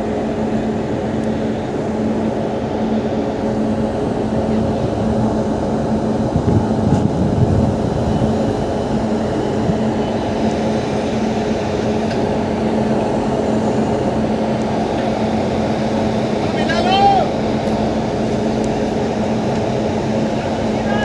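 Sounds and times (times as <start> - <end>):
electric locomotive humming: 0.0 - 21.0.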